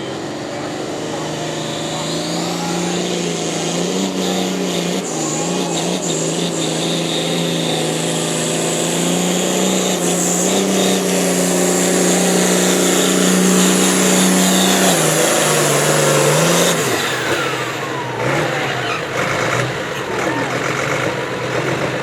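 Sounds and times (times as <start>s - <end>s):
vehicle engine at high revs: 0.0s - 22.0s.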